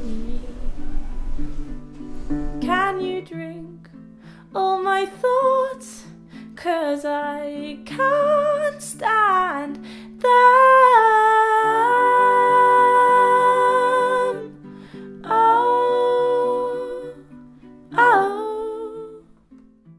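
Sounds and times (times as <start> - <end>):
woman singing wordless notes: 0.0 - 1.4, 2.6 - 19.4
softly plucked strings: 0.0 - 19.9.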